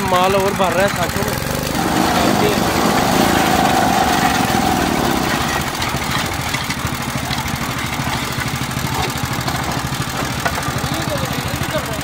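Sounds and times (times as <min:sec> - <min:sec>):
block making machine running: 0:00.9 - 0:12.0
concrete mix being packed: 0:01.2 - 0:11.2.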